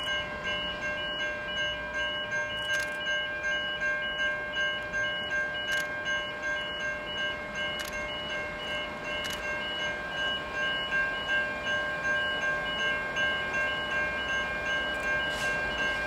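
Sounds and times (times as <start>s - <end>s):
level crossing warning bell ringing: 0.0s - 16.0s.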